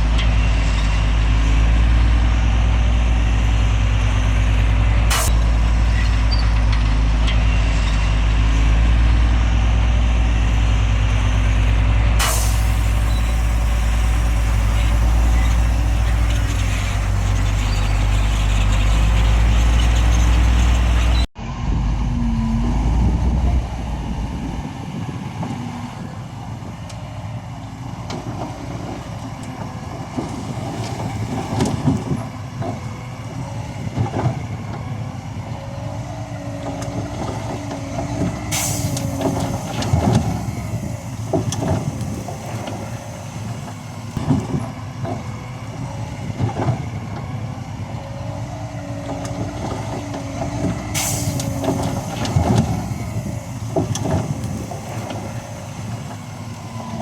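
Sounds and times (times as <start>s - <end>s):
heavy diesel engine running: 0.0s - 57.0s
rough machine sound: 0.0s - 57.0s.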